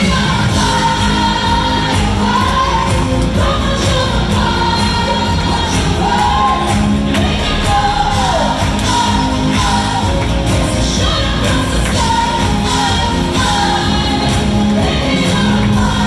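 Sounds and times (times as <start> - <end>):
harmony singers: 0.0 - 16.0
woman singing with vibrato: 0.0 - 16.0.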